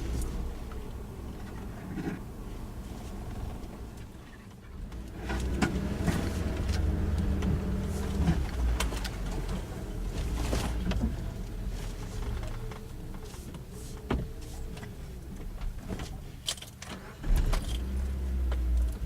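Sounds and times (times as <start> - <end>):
car engine pulling: 0.0 - 19.0.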